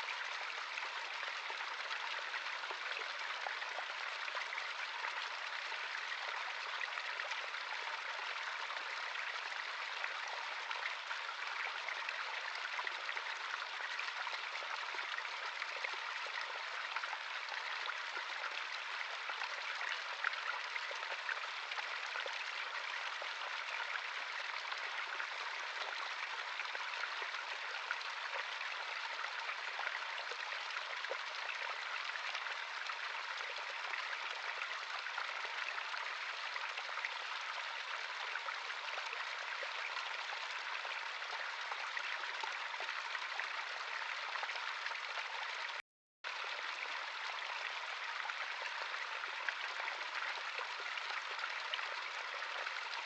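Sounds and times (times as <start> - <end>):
stream burbling over stones: 0.0 - 53.0.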